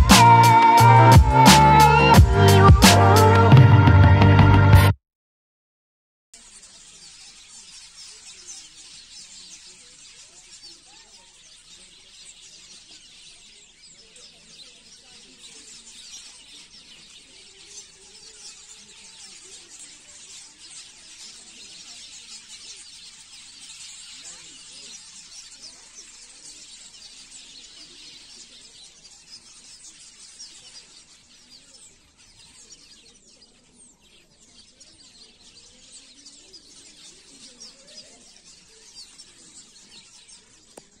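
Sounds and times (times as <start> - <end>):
birds chattering: 0.0 - 3.6, 6.4 - 41.0.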